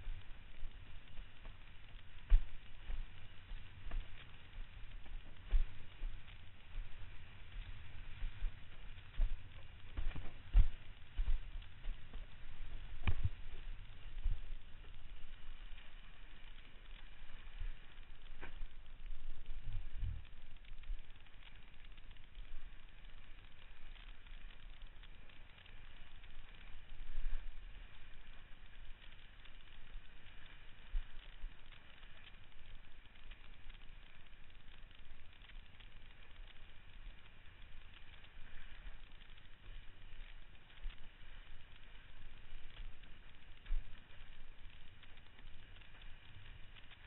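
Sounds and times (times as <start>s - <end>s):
wind rumbling on microphone: 0.0s - 47.0s.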